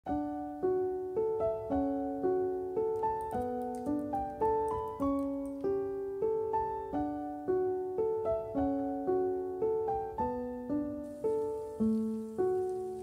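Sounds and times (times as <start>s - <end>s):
gentle piano melody: 0.1s - 13.0s.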